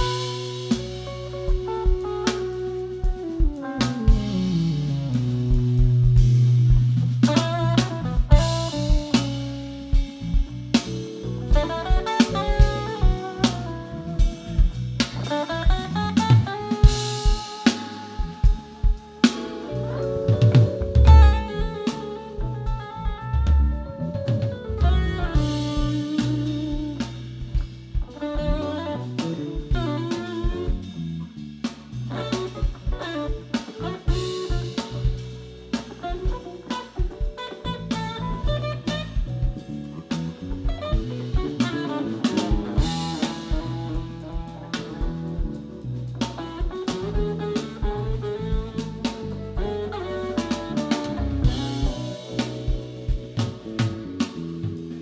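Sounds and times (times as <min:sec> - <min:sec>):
drum kit: 0:00.0 - 0:55.0
electric bass: 0:00.0 - 0:55.0
electric guitar: 0:00.0 - 0:55.0
keyboards: 0:00.0 - 0:55.0
live band playing: 0:00.0 - 0:55.0.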